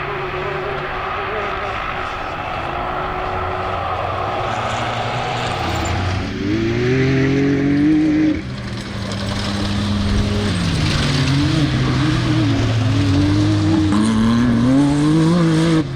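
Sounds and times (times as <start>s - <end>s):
racing vehicle engine revving: 0.0s - 15.9s.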